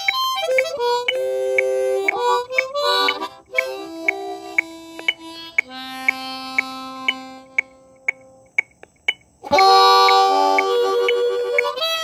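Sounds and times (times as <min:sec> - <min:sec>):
harmonica chord: 0:00.0 - 0:08.6, 0:09.4 - 0:12.0
harmonica note: 0:00.0 - 0:08.7, 0:09.4 - 0:12.0
sharp repeating click: 0:00.0 - 0:11.8.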